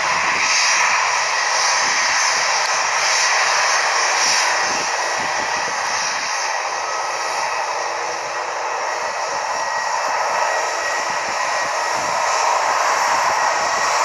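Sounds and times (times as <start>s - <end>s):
jet engines roaring with whine: 0.0s - 14.0s.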